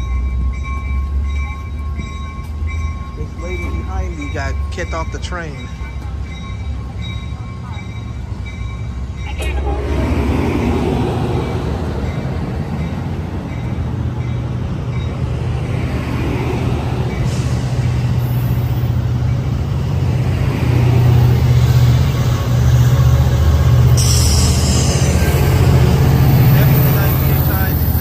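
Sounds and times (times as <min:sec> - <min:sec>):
diesel locomotive: 0:00.0 - 0:28.0
train cars rumbling past: 0:00.0 - 0:28.0.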